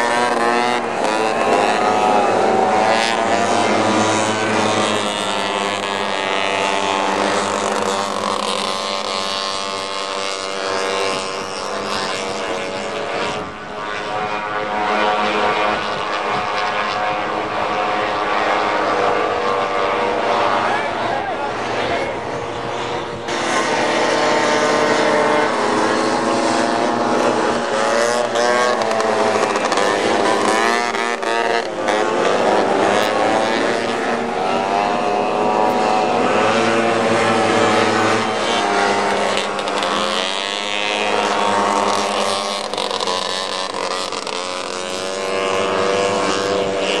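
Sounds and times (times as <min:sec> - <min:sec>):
snowmobile engines at high revs: 0:00.0 - 0:47.0.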